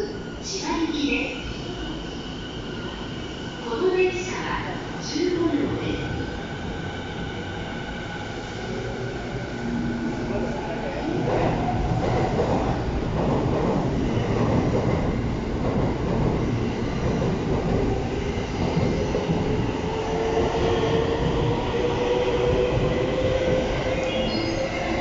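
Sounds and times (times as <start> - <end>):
train wheels rumbling on rail: 3.6 - 25.0.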